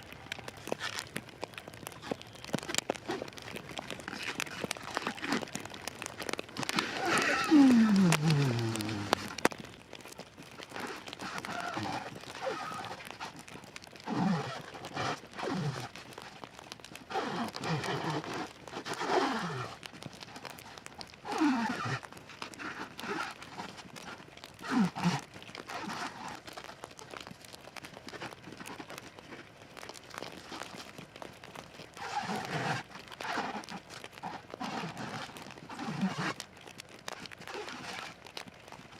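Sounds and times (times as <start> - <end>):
plastic wrap crinkling: 0.0 - 38.9.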